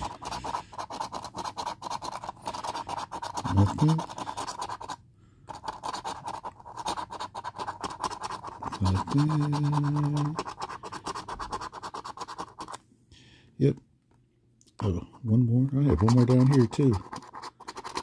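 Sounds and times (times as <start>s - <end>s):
scratch-off ticket scraping: 0.0s - 12.8s, 15.8s - 18.0s.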